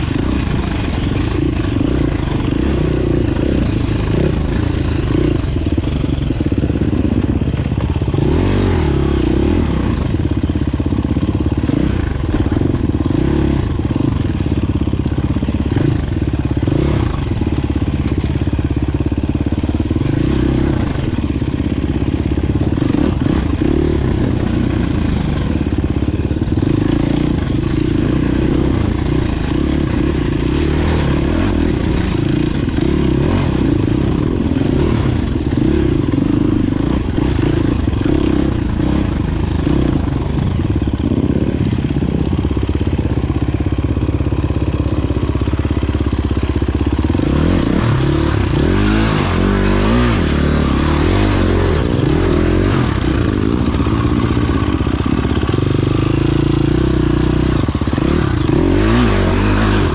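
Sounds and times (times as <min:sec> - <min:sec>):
dirt bike engine revving: 0:00.0 - 0:42.2, 0:44.0 - 0:59.9.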